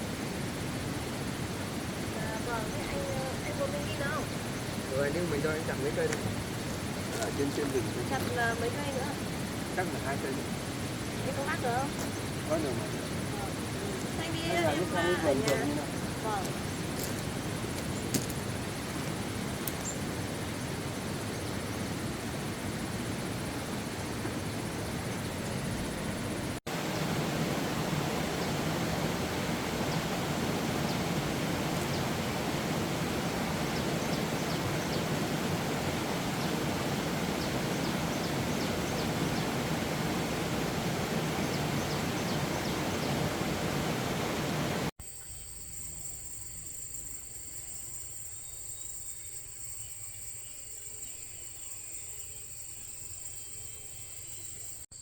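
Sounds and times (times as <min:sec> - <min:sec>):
steady rushing noise: 0:00.0 - 0:44.9
crickets or cicadas droning: 0:00.0 - 0:55.0.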